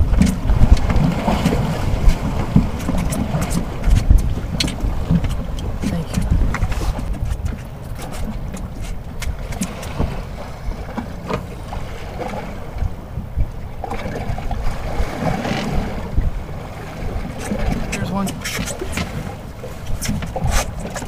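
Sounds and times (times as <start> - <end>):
low rumble: 0.0 - 18.2
choppy water: 0.0 - 21.0
wind buffeting microphone: 0.0 - 21.0.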